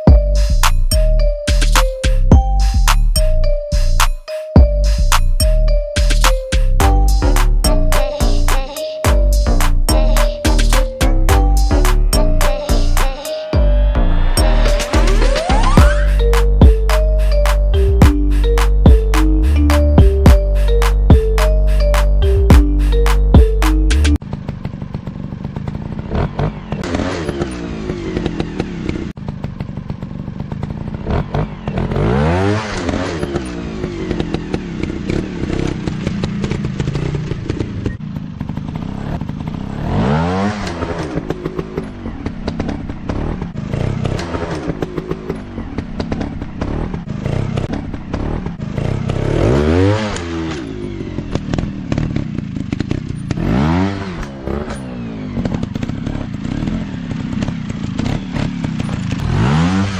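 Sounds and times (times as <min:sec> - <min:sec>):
dirt bike engines revving: 0:09.4 - 0:59.9.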